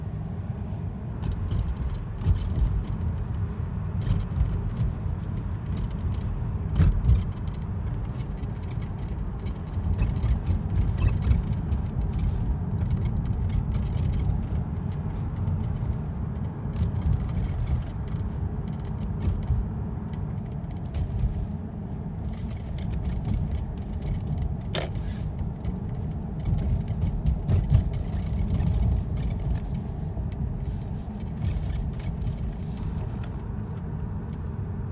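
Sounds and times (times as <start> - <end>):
car cabin road rumble: 0.0 - 34.9.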